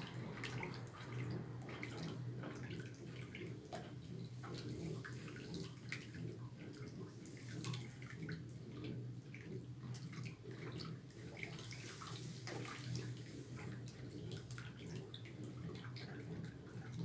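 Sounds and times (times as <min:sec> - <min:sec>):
liquid sloshing as stirred: 0:00.0 - 0:17.0
low steady hum: 0:00.0 - 0:17.0.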